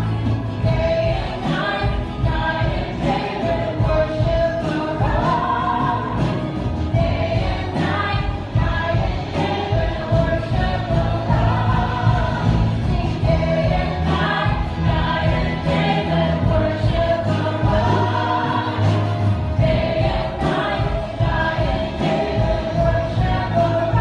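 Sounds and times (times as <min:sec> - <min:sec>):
instrumental accompaniment with bass: 0:00.0 - 0:24.0
voices singing together: 0:00.0 - 0:24.0.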